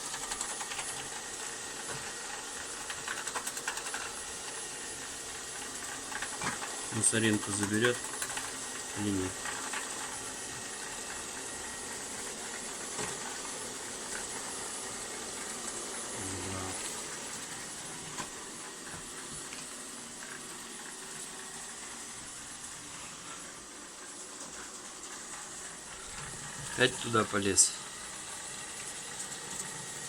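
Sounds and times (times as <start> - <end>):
robot vacuum whirring: 0.0 - 30.0.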